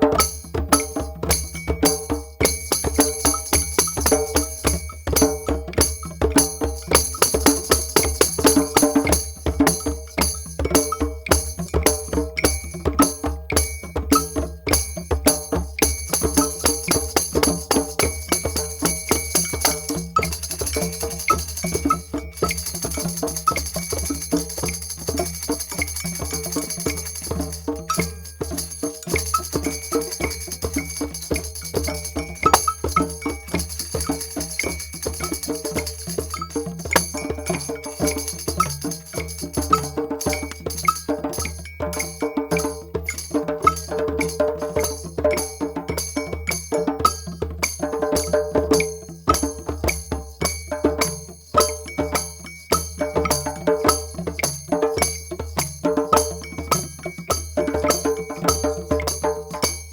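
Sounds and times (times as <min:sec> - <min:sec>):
drums in fast rhythm: 0:00.0 - 0:59.9
jingling percussion: 0:00.0 - 0:59.9.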